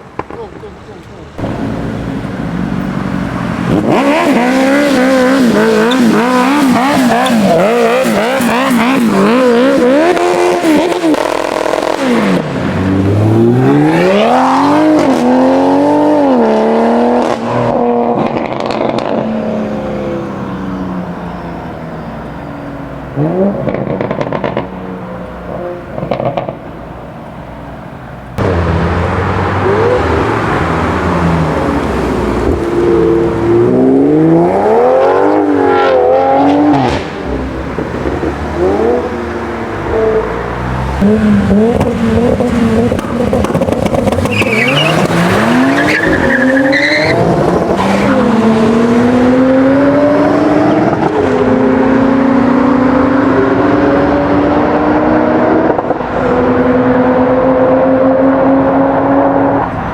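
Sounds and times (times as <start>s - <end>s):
car engine revving and accelerating: 1.4s - 21.4s, 22.9s - 26.6s, 28.4s - 59.9s.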